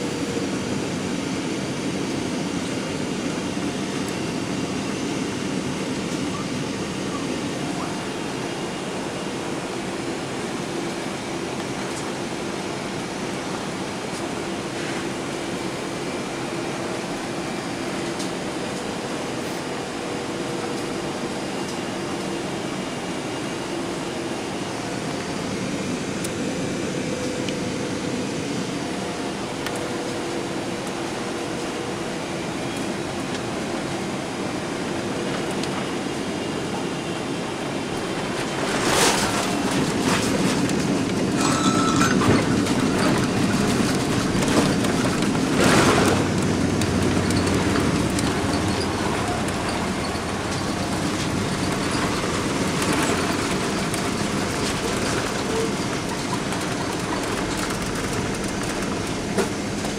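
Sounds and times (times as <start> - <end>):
airliner cabin air and engine rush: 0.0 - 59.9
airliner rolling rumble: 0.0 - 59.9.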